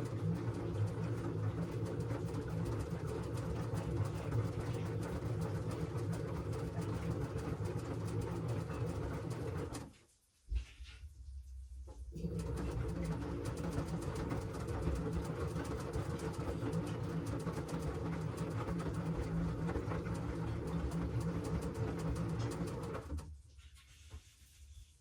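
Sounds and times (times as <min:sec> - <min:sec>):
washing machine motor humming: 0:00.0 - 0:09.9, 0:12.1 - 0:23.4.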